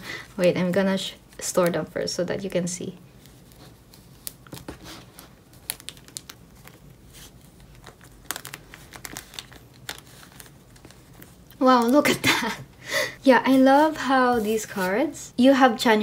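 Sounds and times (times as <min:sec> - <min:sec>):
plastic sleeves crinkling: 0:00.1 - 0:12.6, 0:13.2 - 0:15.4.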